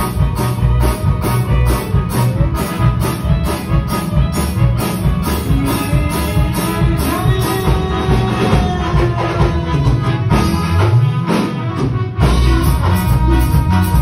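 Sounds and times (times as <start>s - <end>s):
loud music with heavy bass: 0.0s - 14.0s.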